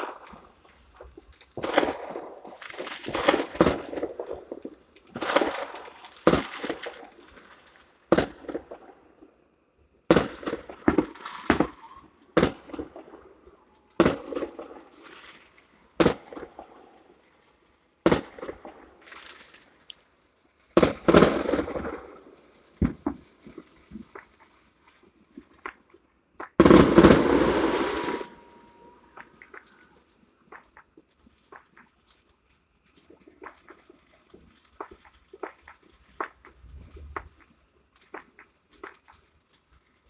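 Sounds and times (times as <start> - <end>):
fireworks bangs and crackling: 0.0 - 40.0.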